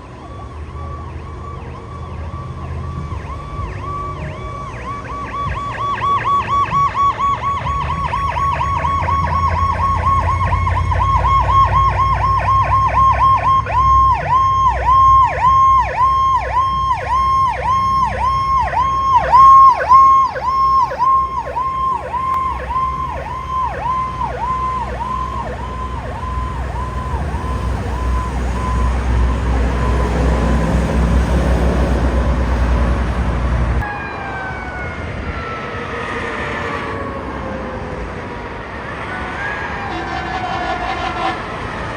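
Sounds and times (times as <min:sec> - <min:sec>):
emergency siren yelping: 0:00.0 - 0:33.0, 0:33.7 - 0:41.9
heavy vehicle engine rumble: 0:00.0 - 0:33.9, 0:34.6 - 0:41.9.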